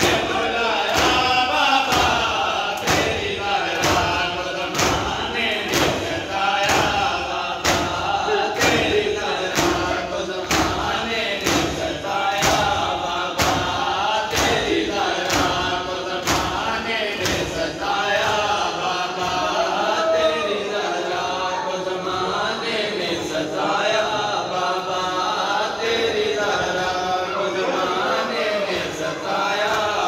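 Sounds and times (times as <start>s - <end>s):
men chanting in unison: 0.0s - 30.0s.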